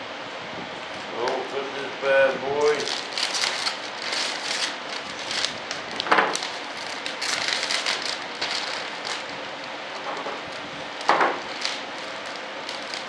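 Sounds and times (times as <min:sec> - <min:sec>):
plastic film crinkling: 0:02.4 - 0:13.0.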